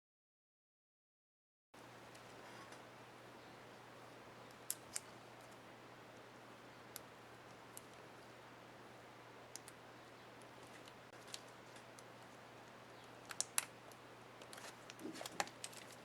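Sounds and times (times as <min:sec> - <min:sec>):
low hum and hiss: 0:01.8 - 0:16.0.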